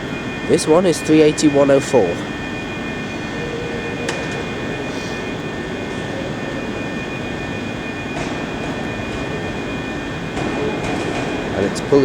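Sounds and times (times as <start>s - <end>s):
thin steady whine: 0.0s - 12.0s
train rumble: 0.0s - 12.0s.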